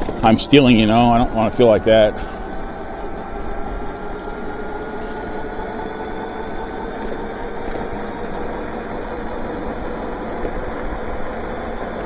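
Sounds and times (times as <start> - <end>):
faint hub motor whine: 0.0 - 12.0
tyre and wind noise: 0.0 - 12.0.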